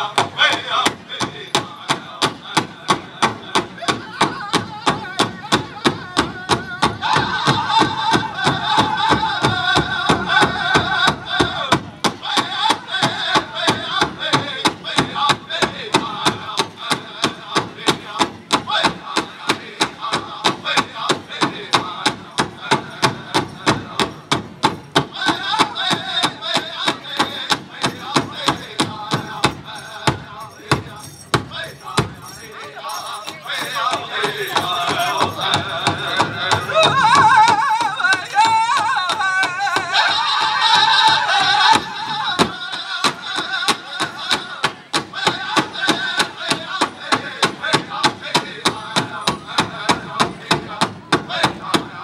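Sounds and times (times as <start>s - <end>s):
large drum beating: 0.0s - 32.4s, 33.3s - 52.0s
high group singing: 0.0s - 52.0s.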